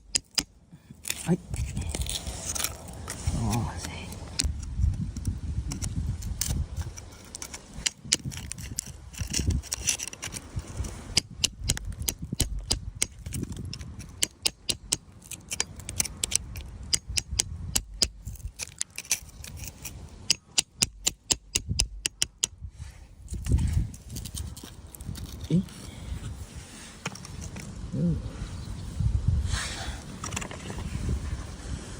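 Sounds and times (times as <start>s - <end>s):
stones clinking and scraping: 0.0s - 4.6s, 5.2s - 22.4s, 23.3s - 27.8s.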